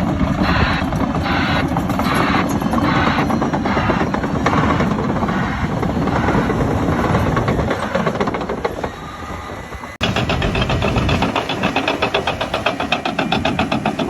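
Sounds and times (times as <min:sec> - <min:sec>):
diesel engine clattering under load: 0:00.0 - 0:14.0
loud engine: 0:00.0 - 0:14.0.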